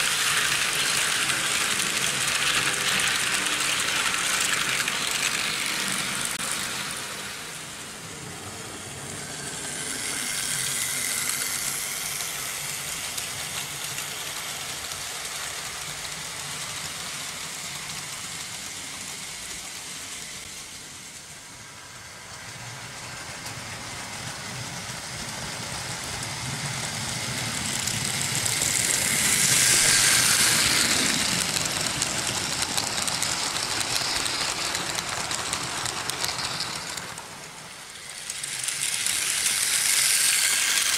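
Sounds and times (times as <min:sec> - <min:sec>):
model trains running on rails: 0:00.0 - 0:40.9.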